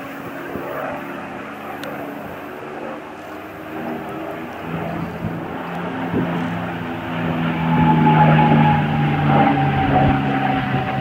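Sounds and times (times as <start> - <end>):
aircraft engine and propeller drone: 0.0 - 11.0
wind: 0.0 - 11.0.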